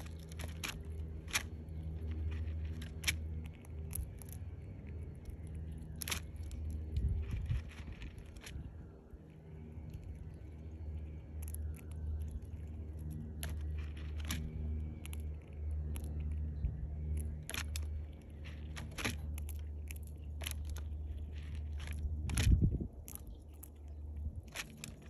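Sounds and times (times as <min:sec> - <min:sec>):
squirrel cracking seed shells: 0:00.0 - 0:25.0
steady low hum: 0:00.0 - 0:25.0.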